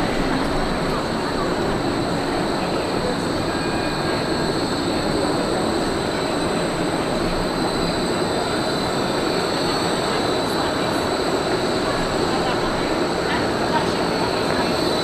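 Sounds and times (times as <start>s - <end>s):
tram rail rumble: 0.0s - 15.0s.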